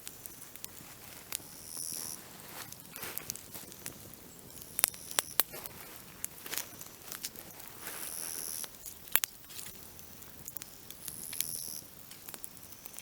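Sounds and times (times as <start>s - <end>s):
grasshoppers chirping: 0.0s - 13.0s
sharp clicks and crackles: 0.0s - 13.0s.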